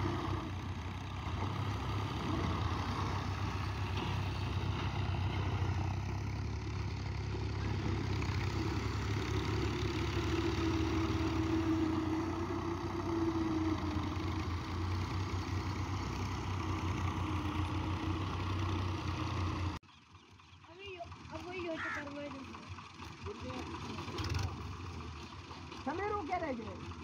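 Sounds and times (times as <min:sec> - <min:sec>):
tractor engine drone: 0:00.0 - 0:27.0.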